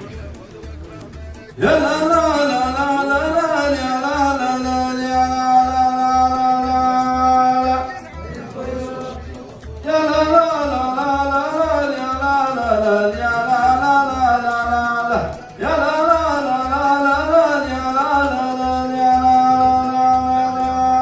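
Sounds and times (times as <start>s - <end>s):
person chanting melodic line: 1.6s - 9.5s, 10.1s - 21.0s.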